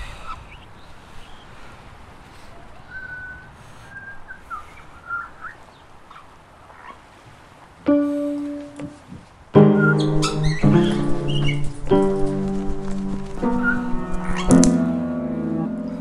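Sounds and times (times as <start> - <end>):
low hiss: 0.0 - 16.0.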